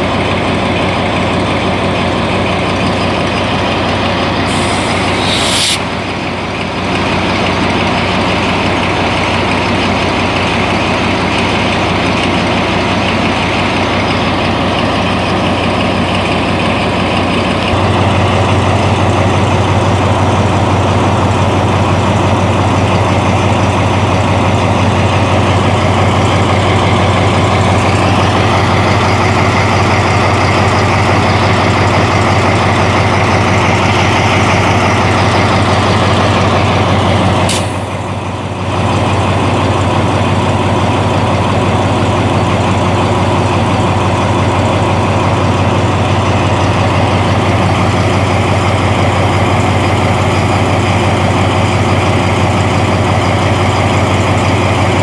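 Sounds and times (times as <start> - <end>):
locomotive engine idling: 0.0 - 55.0.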